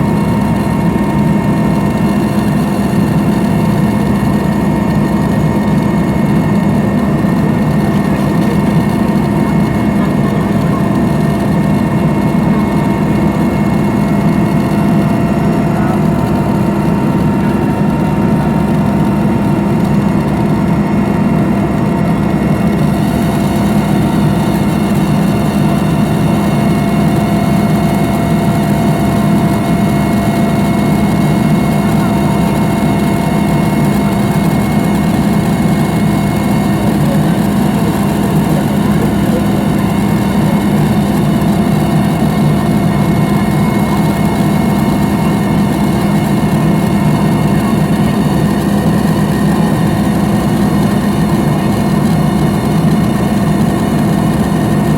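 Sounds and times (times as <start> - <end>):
helicopter engine and rotor drone: 0.0 - 54.9
steady whining tones: 0.0 - 54.9.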